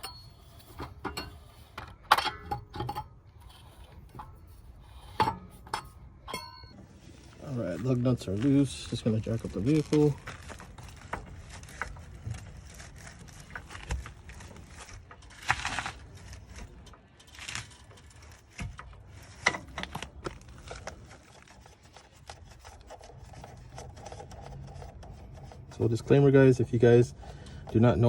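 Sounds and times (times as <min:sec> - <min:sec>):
car jack scraping: 0:00.0 - 0:28.0.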